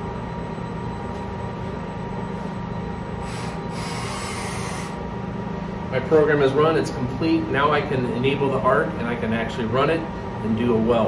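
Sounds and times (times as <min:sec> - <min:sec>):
air handling hum: 0:00.0 - 0:11.0.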